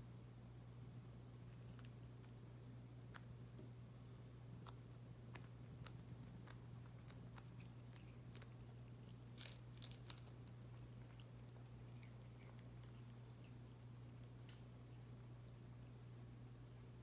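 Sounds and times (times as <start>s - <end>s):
low steady hum: 0.0s - 17.0s
cat chewing grass: 1.3s - 17.0s.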